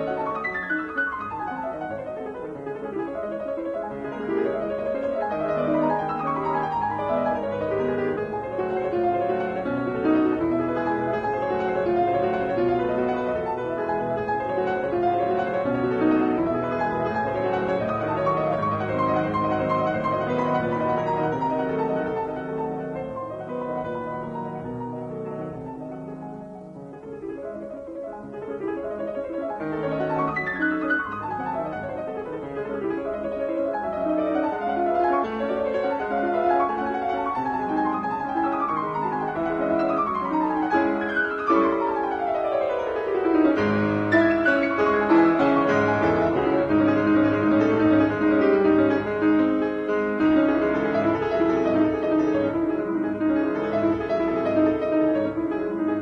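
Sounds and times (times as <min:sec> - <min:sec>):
classical piano music: 0:00.0 - 0:56.0.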